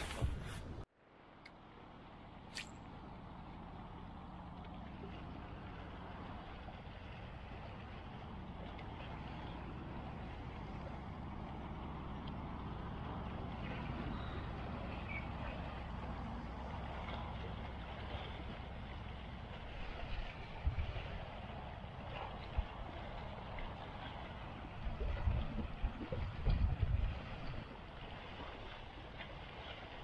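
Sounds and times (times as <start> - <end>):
boat engine rumble: 0.0 - 30.0.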